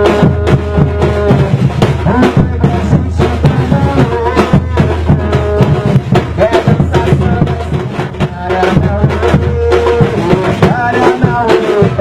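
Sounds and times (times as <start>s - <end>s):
deep bass drums: 0.0s - 12.0s
percussion group drumming: 0.0s - 12.0s
singing over drums: 0.0s - 12.0s.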